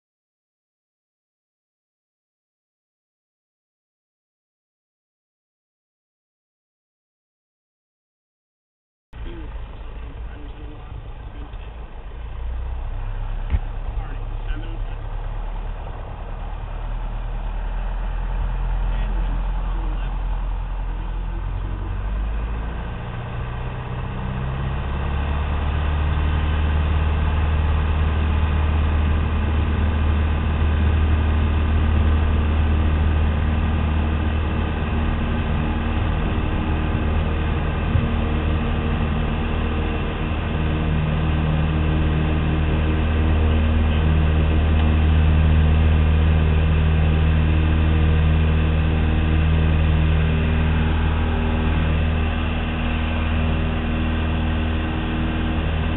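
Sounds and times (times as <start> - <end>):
propeller plane engine running: 9.2 - 55.9.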